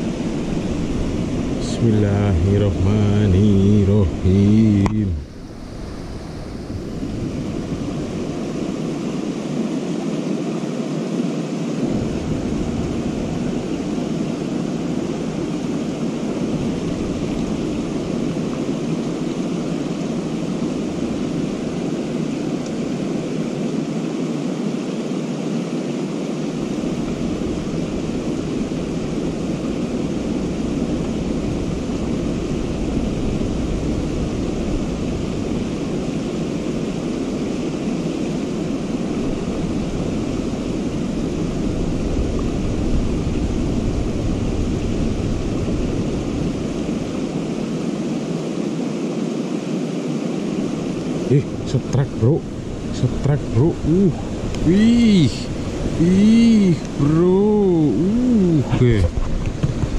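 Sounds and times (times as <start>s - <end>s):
river rushing over rocks: 0.0s - 59.9s
wind rumble on microphone: 0.0s - 59.9s.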